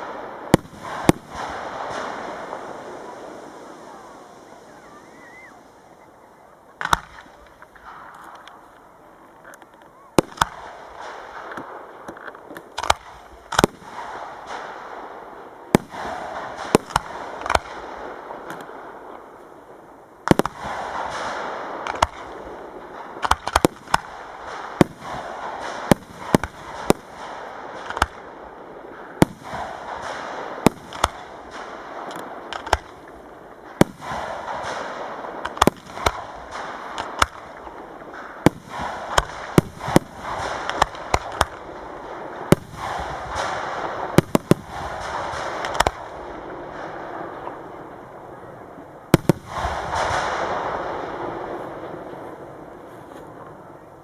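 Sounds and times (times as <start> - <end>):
firework shells bursting: 0.0 - 6.1, 6.7 - 48.3, 48.9 - 52.8
steady hiss: 0.0 - 54.0.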